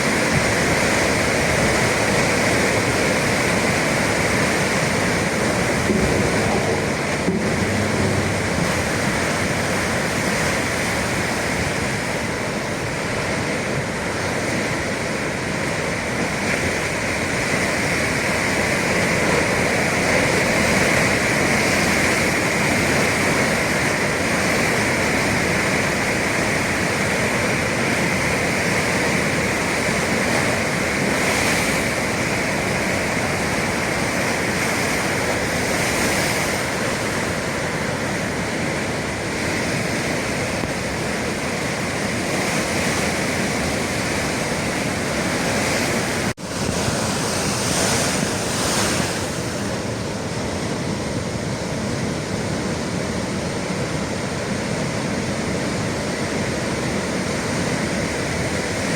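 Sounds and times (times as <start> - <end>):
waves washing against shore: 0.0 - 58.9.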